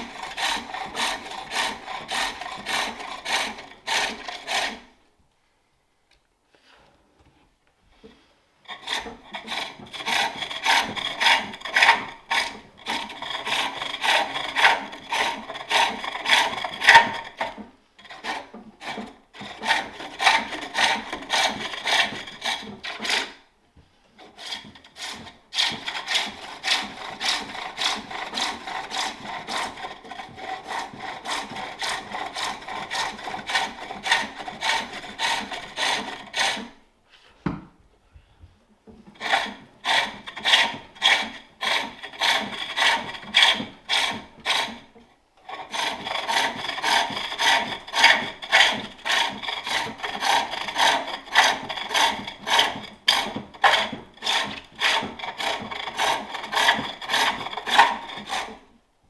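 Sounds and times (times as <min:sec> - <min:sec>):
lathe tool scraping wood: 0:00.0 - 0:05.0, 0:08.7 - 0:23.4, 0:24.2 - 0:36.8, 0:39.1 - 0:58.7.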